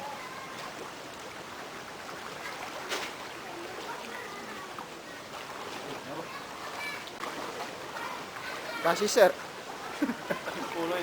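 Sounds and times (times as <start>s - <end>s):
floodwater rushing: 0.0s - 11.0s
faint voices: 1.6s - 11.0s.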